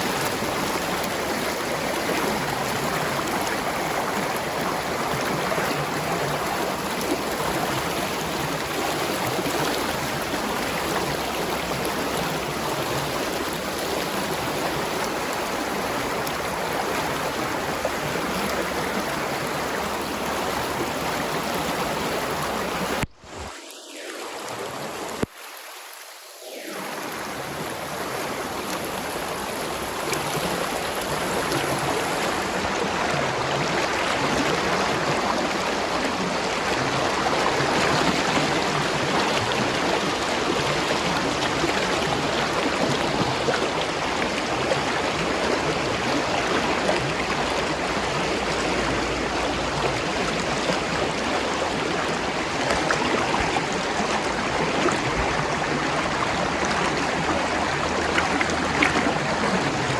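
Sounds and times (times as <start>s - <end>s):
spring water flowing: 0.0s - 59.9s.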